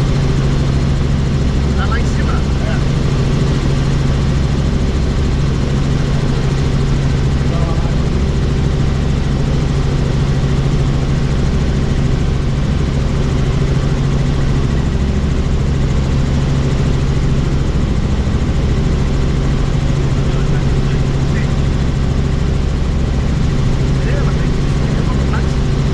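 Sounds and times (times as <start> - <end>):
helicopter rotor and engine drone: 0.0 - 25.9.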